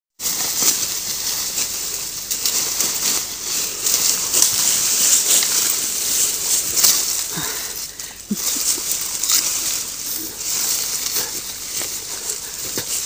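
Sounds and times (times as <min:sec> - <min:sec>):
rustles and clicks: 0:00.2 - 0:13.0.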